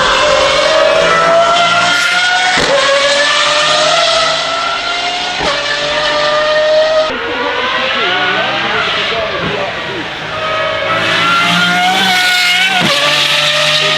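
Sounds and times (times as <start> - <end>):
sports car engine accelerating: 0.0 - 13.9.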